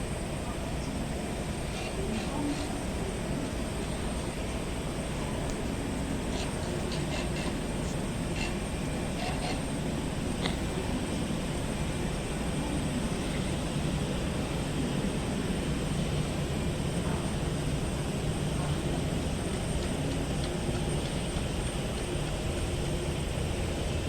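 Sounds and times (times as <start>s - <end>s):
jet aircraft rumble: 0.0s - 24.0s.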